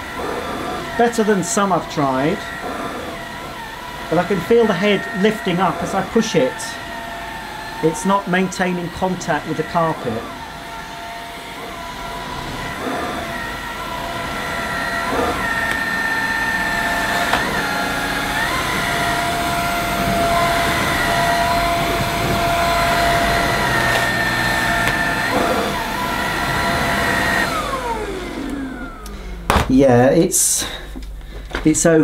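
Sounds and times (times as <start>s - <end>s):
vacuum cleaner motor whine: 0.0s - 29.7s
vacuum motor winding down: 0.0s - 31.2s.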